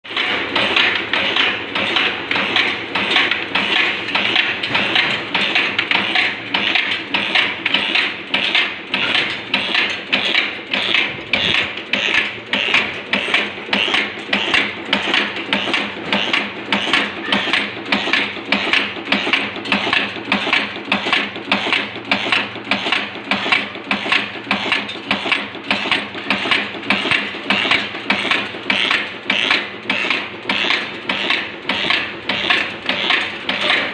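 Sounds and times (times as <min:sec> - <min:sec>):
heading machine clattering: 0:00.1 - 0:33.9.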